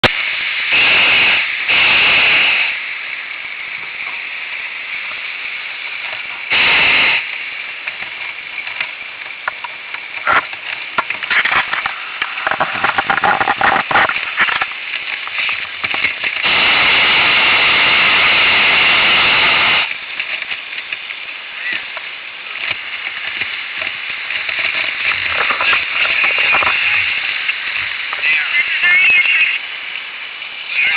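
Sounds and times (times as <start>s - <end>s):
propane burner blasts: 0.0s - 30.9s
crackling and rustling: 2.8s - 30.9s.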